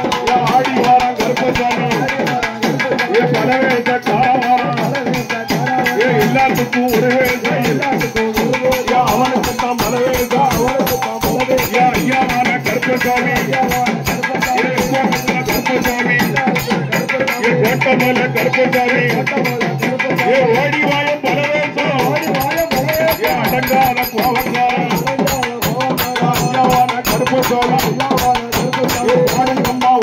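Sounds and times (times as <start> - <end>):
fast drumbeats: 0.0 - 30.0.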